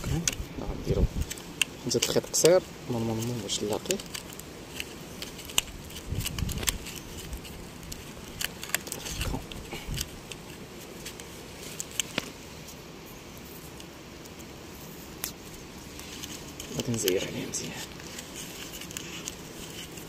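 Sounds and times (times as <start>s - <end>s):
wire twisting clicks and crackles: 0.0s - 12.4s, 13.4s - 20.0s.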